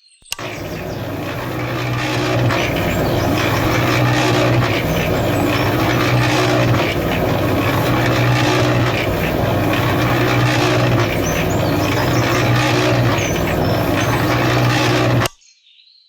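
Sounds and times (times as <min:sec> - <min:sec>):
small electric motor humming: 0:00.3 - 0:15.3.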